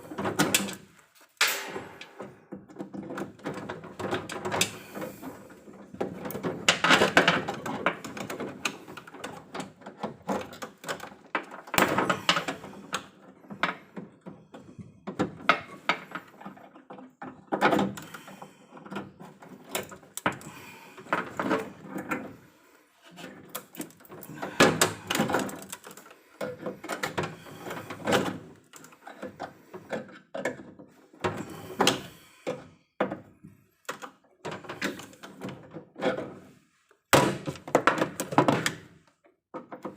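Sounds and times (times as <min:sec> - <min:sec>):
knocks and rattles on electrical panel: 0:00.0 - 0:22.4, 0:23.1 - 0:36.5, 0:37.1 - 0:39.9.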